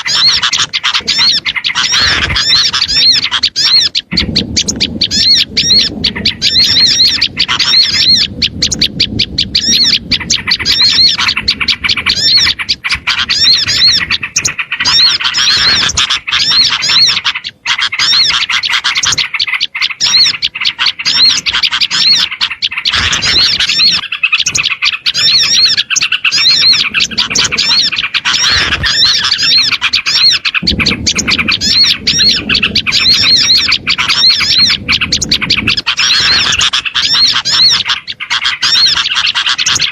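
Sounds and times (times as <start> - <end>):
songbirds chirping and squawking: 0.0 - 39.9.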